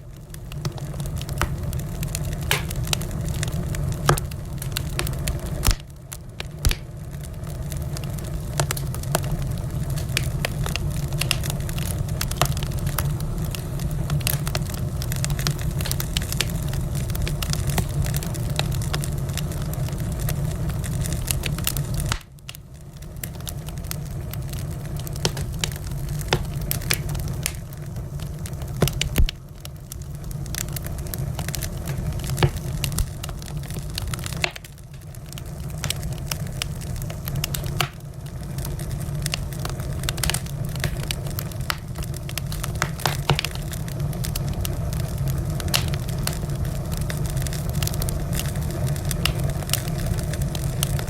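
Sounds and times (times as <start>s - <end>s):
low rumble of flames: 0.0s - 51.0s
wood fire crackling and popping: 0.0s - 51.0s.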